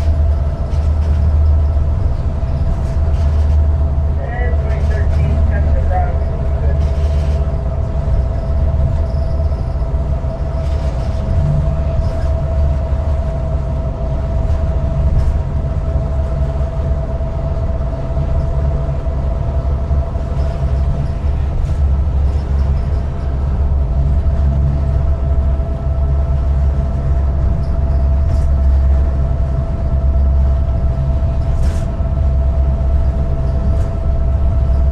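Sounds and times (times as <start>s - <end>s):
diesel locomotive engine rumble: 0.0s - 34.9s
engine whine: 0.0s - 34.9s.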